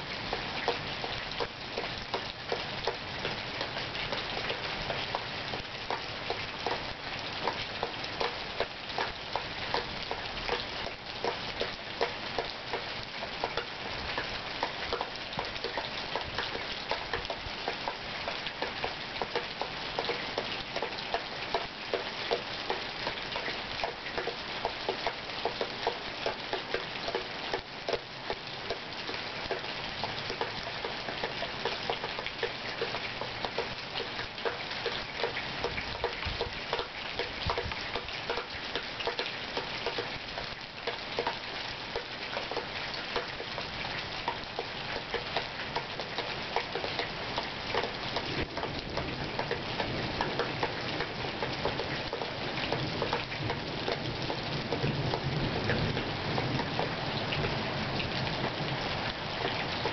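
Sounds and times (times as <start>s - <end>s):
raindrops splashing on hard surfaces: 0.0s - 59.9s
steady rain: 0.0s - 59.9s.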